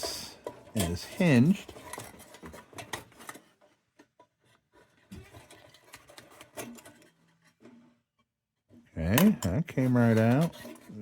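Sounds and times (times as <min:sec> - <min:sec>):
tin lantern parts clicking and scraping: 0:00.0 - 0:08.0, 0:09.1 - 0:11.0.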